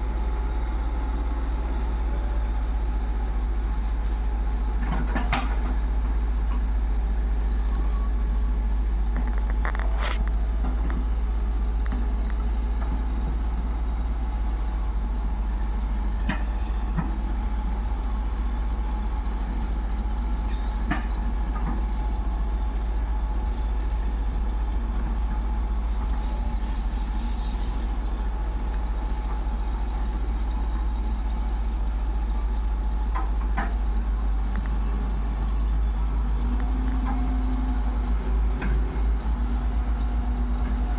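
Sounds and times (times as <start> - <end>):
heavy diesel engines rumbling: 0.0 - 40.9.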